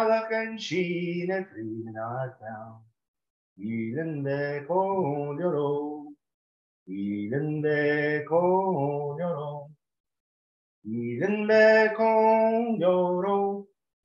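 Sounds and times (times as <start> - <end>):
man singing unaccompanied: 0.0 - 2.9, 3.6 - 6.2, 6.9 - 9.8, 10.8 - 13.8.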